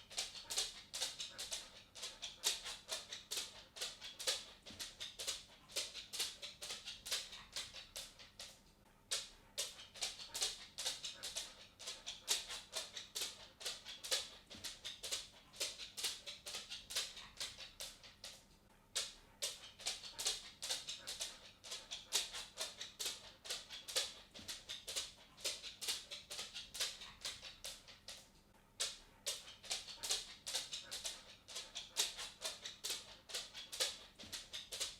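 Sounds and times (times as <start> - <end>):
dog claws clicking on wooden floor: 0.0 - 34.9.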